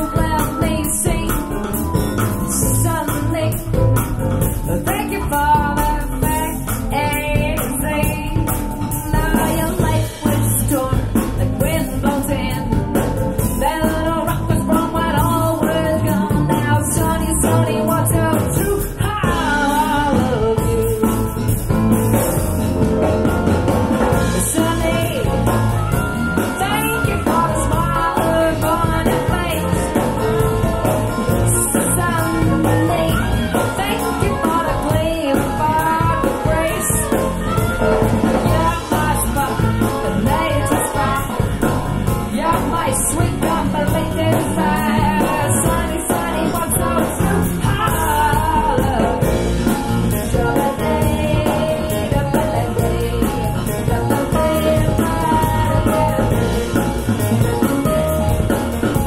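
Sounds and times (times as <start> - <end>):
person singing: 0.0 - 21.7, 24.1 - 59.0
bass: 0.0 - 59.0
drums: 0.0 - 59.0
guitar: 0.0 - 59.0.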